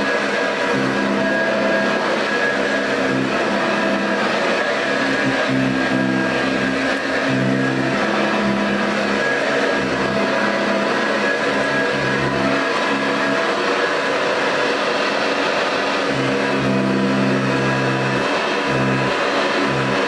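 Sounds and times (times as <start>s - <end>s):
vacuum cleaner motor and fan whine: 0.0s - 20.0s.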